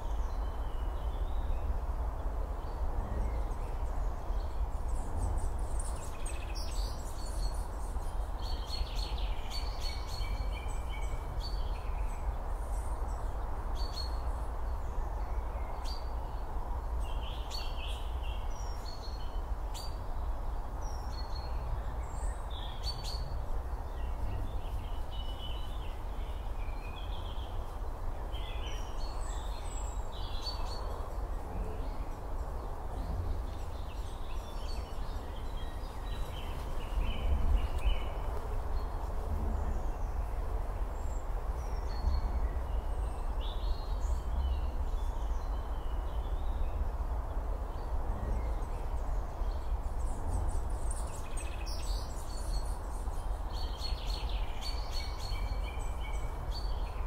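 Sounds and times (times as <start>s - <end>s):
small birds chirping: 2.6s - 57.0s.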